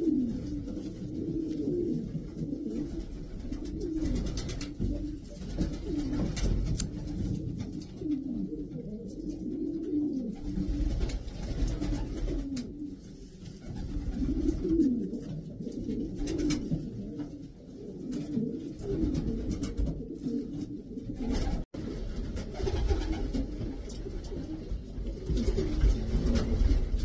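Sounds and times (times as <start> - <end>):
pigeons cooing: 0.0 - 21.7, 22.4 - 27.0.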